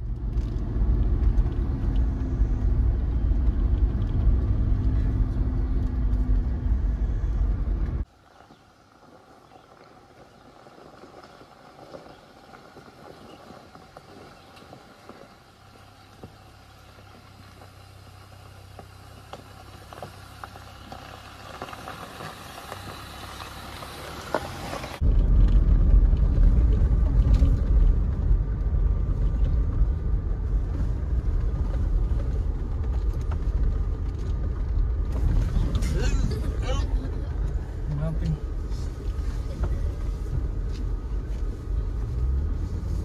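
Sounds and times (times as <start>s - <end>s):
vehicle driving rumble: 0.0s - 43.0s.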